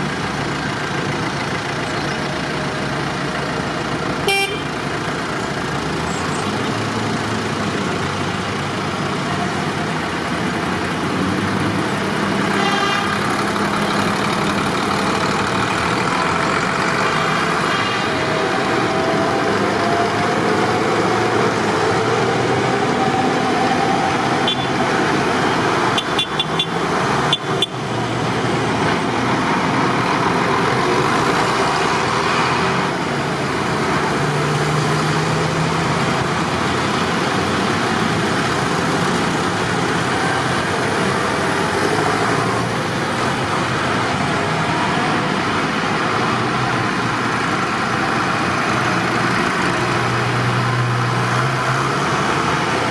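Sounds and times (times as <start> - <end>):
tractor engines running: 0.0 - 52.9
vehicle rumble: 0.0 - 52.9.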